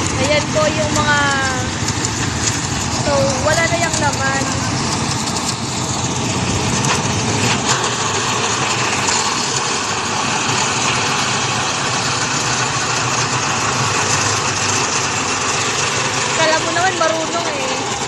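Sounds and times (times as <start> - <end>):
harvesting machine running: 0.0 - 18.0.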